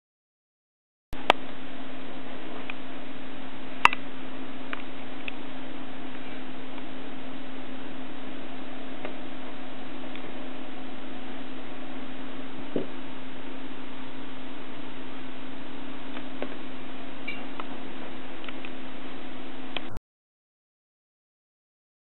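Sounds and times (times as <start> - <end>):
steady low hum: 1.2 - 20.0.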